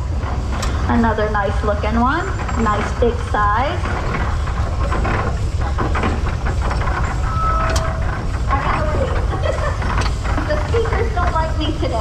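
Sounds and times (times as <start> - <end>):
engine knocks and clanks: 0.0 - 12.0
steam traction engine running: 0.0 - 12.0.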